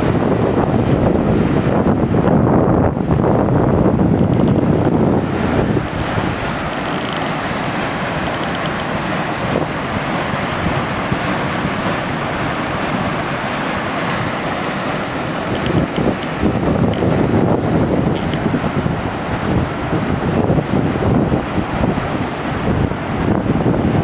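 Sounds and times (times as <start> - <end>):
wind buffeting microphone: 0.0 - 24.0
waterfall rushing: 4.4 - 24.0.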